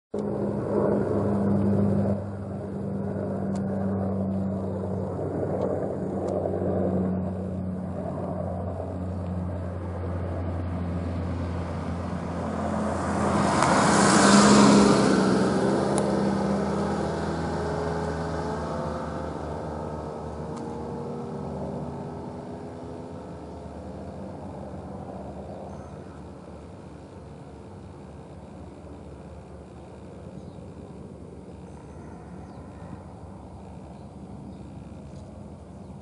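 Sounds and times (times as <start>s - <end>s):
helicopter flying past: 0.2s - 36.0s.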